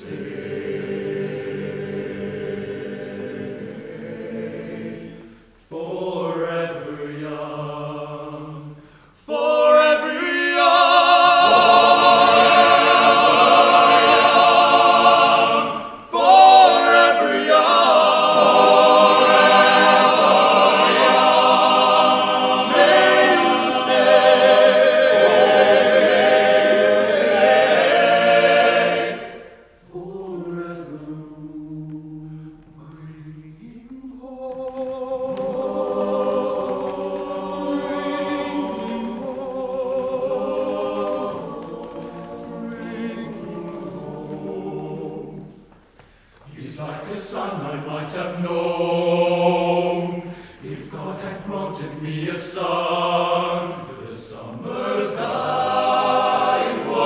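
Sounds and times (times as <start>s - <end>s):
men's choir singing a cappella: 0.0s - 45.8s, 46.4s - 57.0s.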